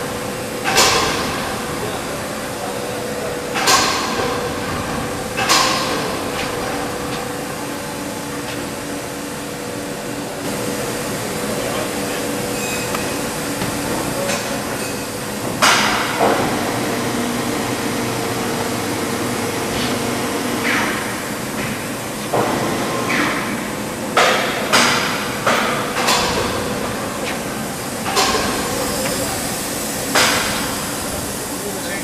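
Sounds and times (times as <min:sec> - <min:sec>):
machine shop hum: 0:00.0 - 0:32.0.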